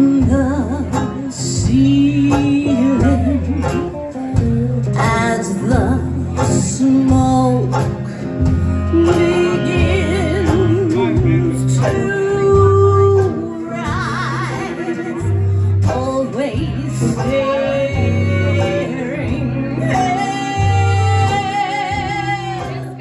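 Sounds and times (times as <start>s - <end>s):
banjo: 0.0s - 23.0s
drums: 0.0s - 23.0s
fiddle: 0.0s - 23.0s
person singing with vibrato: 0.0s - 23.0s
upright bass walking line: 0.0s - 23.0s.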